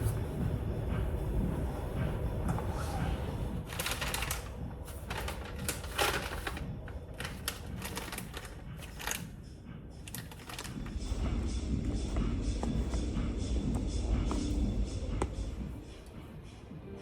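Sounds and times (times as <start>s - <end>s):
low steady rumble: 0.0s - 16.4s.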